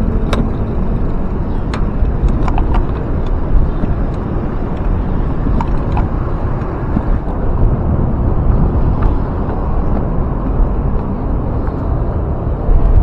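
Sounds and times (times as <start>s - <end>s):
bicycle road noise: 0.0s - 13.0s
bike clicks and rattles: 0.0s - 13.0s
wind rumble on microphone: 0.0s - 13.0s.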